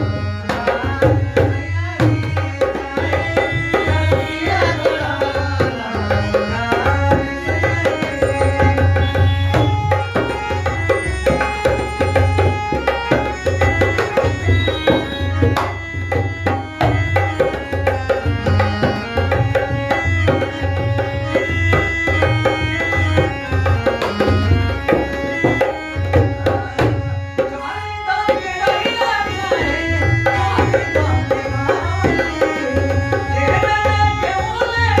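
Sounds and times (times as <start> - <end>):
hand drum rhythm: 0.0 - 35.0
harmonium melody: 0.0 - 35.0.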